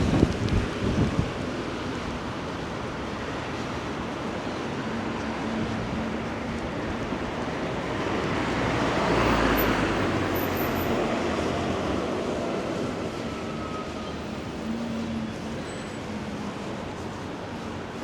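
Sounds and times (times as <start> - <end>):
vehicle passing on wet street: 0.0 - 18.0.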